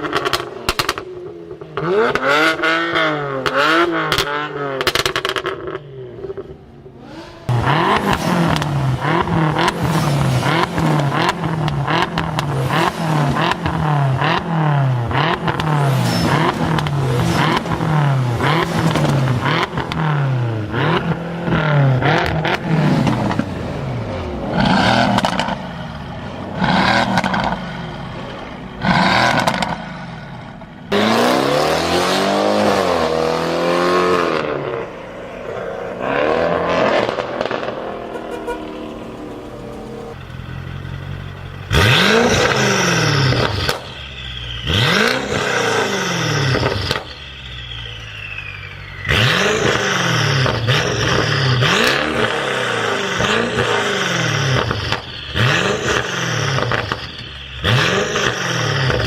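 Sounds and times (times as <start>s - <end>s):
exhaust crackling and popping: 0.0s - 6.6s, 7.2s - 31.0s, 34.3s - 59.0s
car engine revving: 0.0s - 59.0s.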